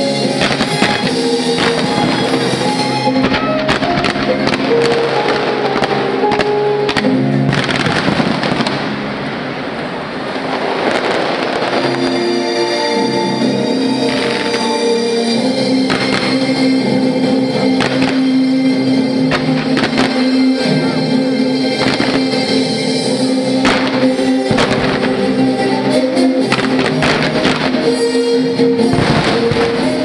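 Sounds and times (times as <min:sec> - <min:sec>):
fireworks bursting and crackling: 0:00.0 - 0:30.0
show music: 0:00.0 - 0:30.0.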